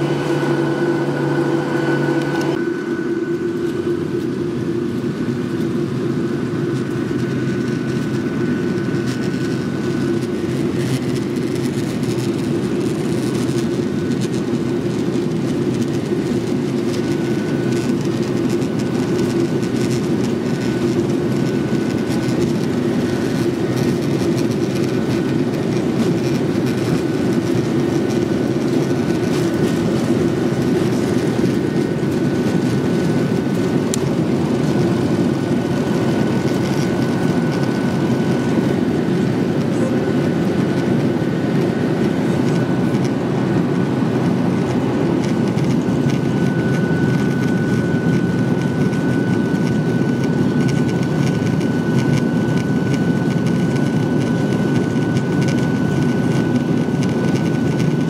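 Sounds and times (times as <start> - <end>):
jet engines roaring: 0.0 - 58.0
wheels rumbling on runway: 0.0 - 58.0.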